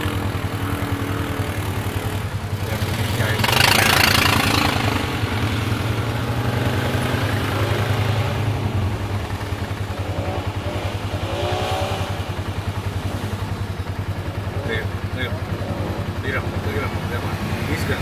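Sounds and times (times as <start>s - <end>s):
atv engines revving: 0.0s - 18.0s.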